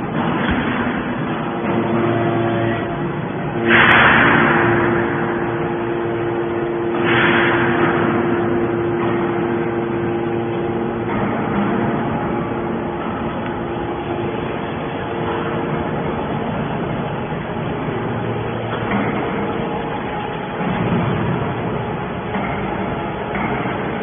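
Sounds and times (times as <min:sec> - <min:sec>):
hydraulic pump hum: 0:00.0 - 0:24.0
loud hydraulic rushing surge: 0:00.0 - 0:24.0.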